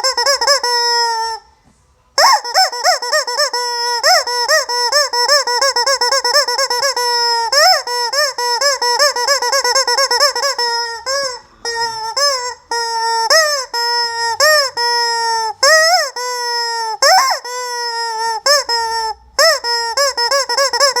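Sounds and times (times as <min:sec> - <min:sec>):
rubber chicken toy squeaking: 0:00.0 - 0:01.6, 0:02.2 - 0:21.0.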